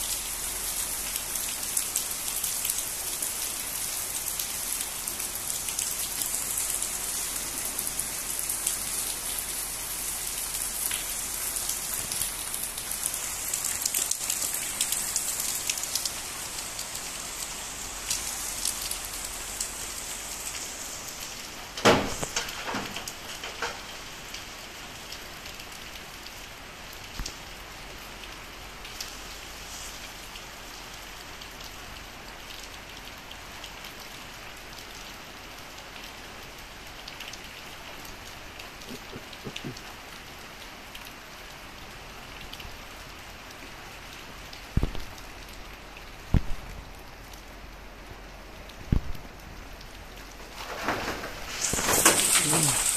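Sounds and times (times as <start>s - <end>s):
torrential rain hissing: 0.0s - 52.9s.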